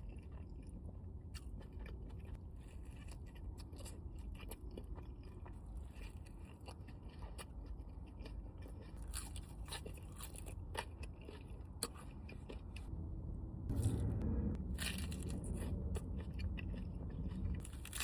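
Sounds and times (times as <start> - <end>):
chewing and crunching food: 0.0 - 12.9, 14.7 - 18.0.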